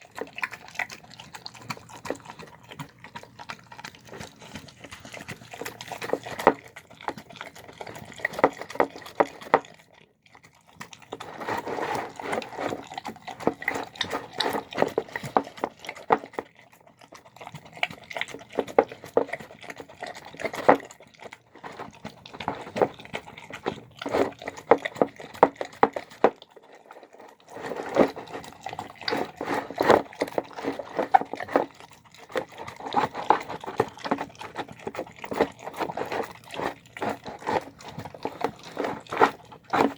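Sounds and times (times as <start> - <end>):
dog chewing wet food: 0.0 - 39.9.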